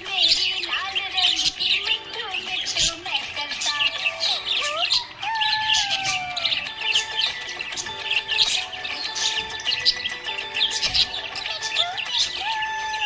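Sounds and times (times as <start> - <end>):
parrots chirping: 0.0 - 13.0.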